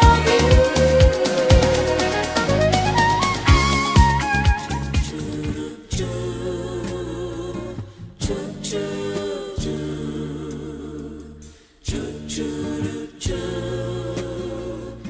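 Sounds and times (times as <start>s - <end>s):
voices singing in harmony: 0.0s - 15.0s.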